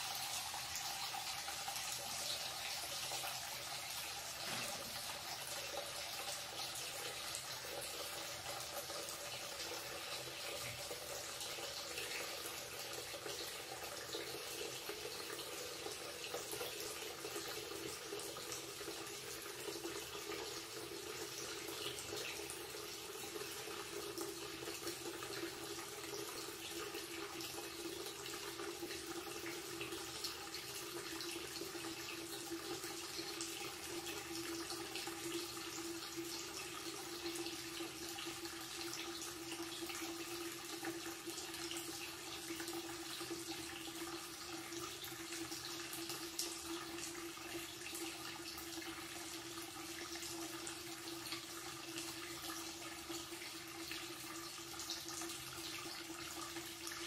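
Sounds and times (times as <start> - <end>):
tap water running into basin: 0.0 - 57.0.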